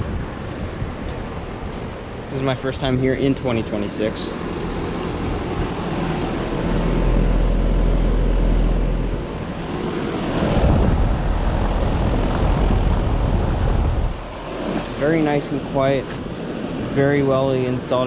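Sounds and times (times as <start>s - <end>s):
condenser fan whooshing: 0.0s - 18.0s
low hum: 0.0s - 18.0s.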